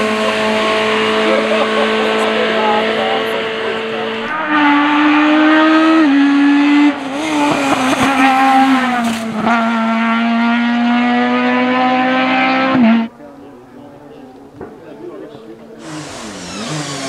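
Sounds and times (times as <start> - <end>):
race car engine at high revs: 0.0 - 13.1, 14.5 - 17.0.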